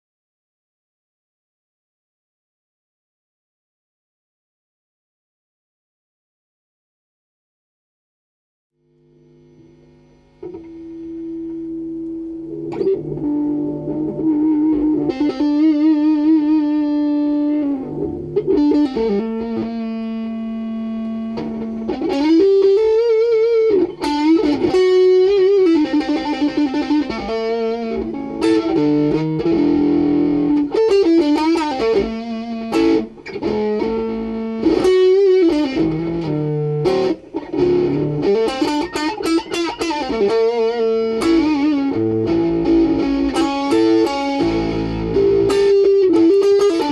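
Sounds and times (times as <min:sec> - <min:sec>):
blues electric guitar licks: 0:09.2 - 0:46.9.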